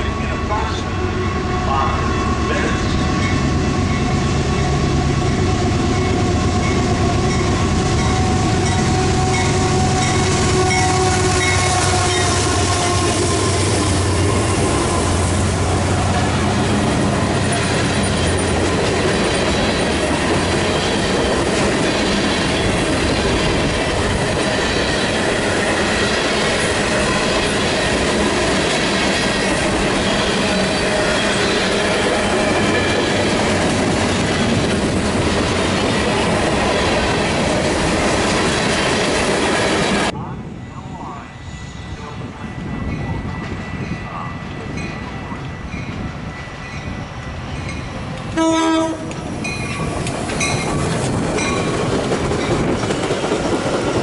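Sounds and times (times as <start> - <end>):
diesel locomotive engine rumble: 0.0 - 54.0
train rolling roar: 0.0 - 54.0
clickety-clack of train wheels: 5.3 - 40.1, 42.0 - 54.0.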